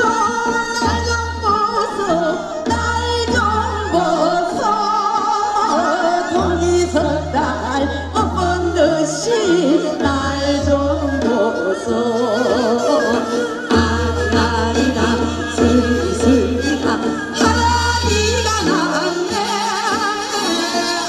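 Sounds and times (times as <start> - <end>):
women singing folk songs: 0.0 - 21.0.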